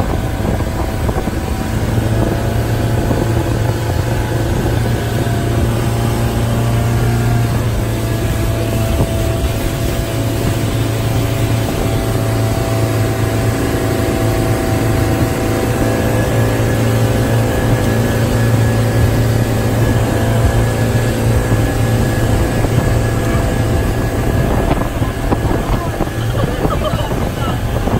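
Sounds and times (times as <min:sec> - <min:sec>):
motorboat engine running: 0:00.0 - 0:27.9
rushing boat wake and spray: 0:00.0 - 0:27.9.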